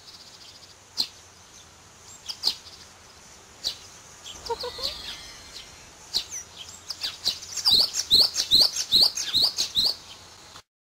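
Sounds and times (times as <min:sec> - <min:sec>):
bird chirping: 0:00.0 - 0:10.4.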